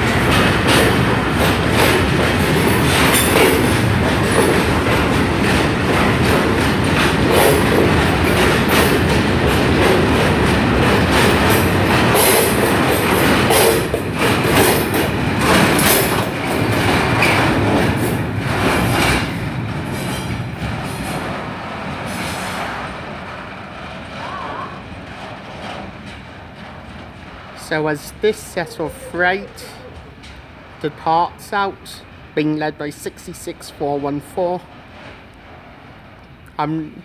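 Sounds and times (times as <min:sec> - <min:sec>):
train wheels clattering over rail joints: 0:00.0 - 0:29.1, 0:29.7 - 0:30.8.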